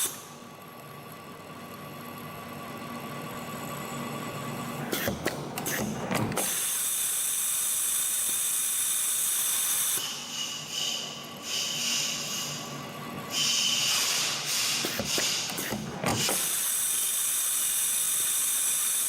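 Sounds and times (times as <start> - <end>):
coiling machine hiss and whir: 0.0 - 0.4, 3.7 - 19.0.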